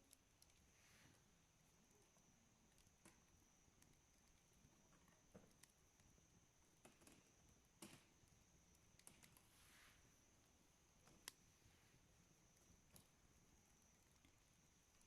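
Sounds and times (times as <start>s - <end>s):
faint campfire crackling: 0.0s - 15.0s.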